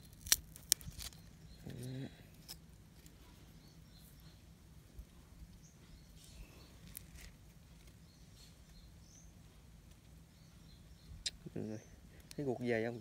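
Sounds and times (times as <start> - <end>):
faint bird chirps: 0.9 - 2.4, 3.1 - 9.6, 10.2 - 13.0.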